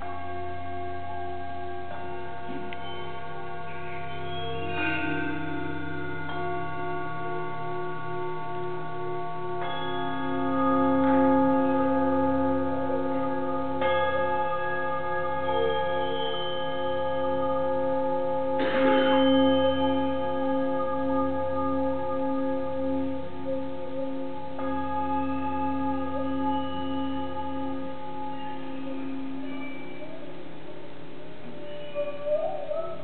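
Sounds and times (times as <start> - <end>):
metal singing bowls ringing: 0.0 - 33.0.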